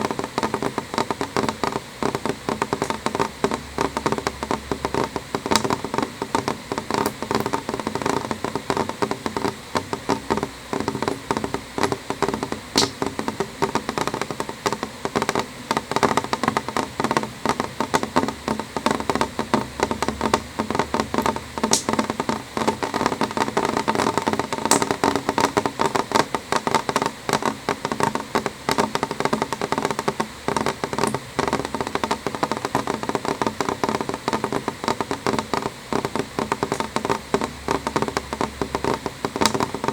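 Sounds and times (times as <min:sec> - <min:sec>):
rain tapping on window: 0:00.0 - 0:39.9.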